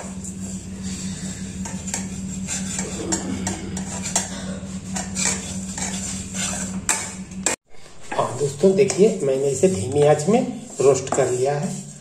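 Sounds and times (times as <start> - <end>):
steel spatula scraping a wok: 0.0 - 7.3, 8.0 - 12.0
steady low hum: 0.0 - 12.0.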